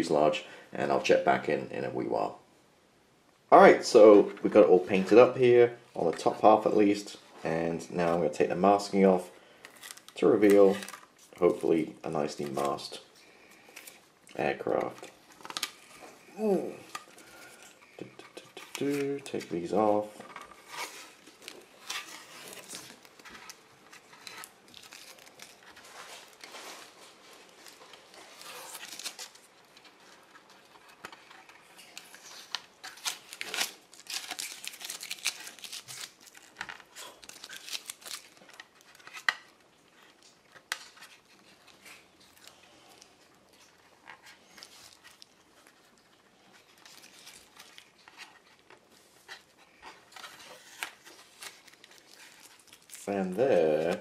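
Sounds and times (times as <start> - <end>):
tape crinkling and tearing: 9.6 - 54.0.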